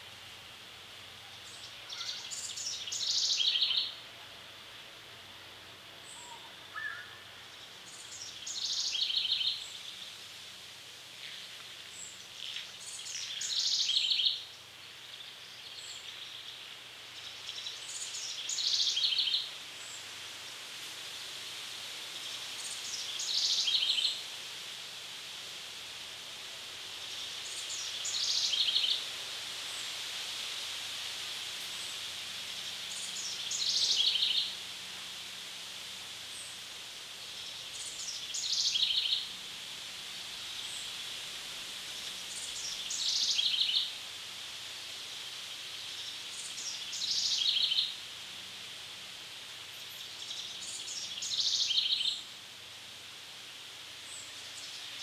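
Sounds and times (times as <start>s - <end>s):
high-pitched background hiss: 0.0s - 55.0s.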